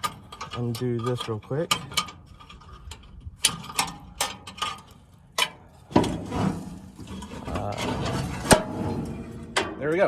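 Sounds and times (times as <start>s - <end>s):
metal cover rattling scrape: 0.0s - 10.0s.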